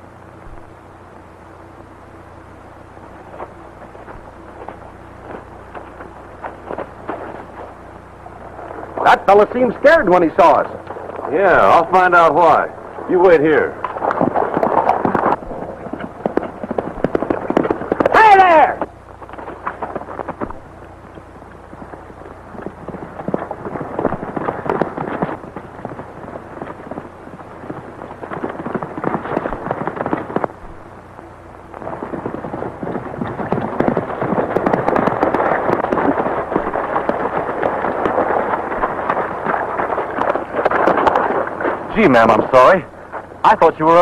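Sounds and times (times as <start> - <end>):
horses galloping on hard ground: 0.0 - 44.0.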